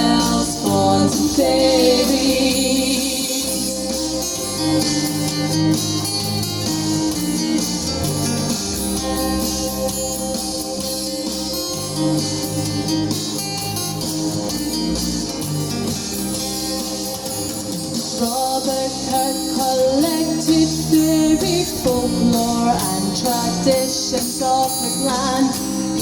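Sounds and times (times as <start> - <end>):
instrumental band music: 0.0 - 26.0.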